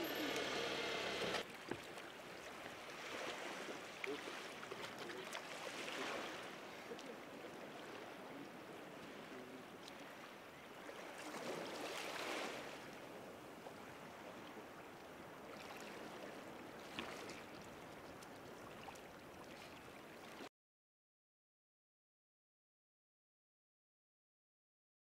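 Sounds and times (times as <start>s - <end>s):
seawater lapping and splashing: 0.0s - 20.5s.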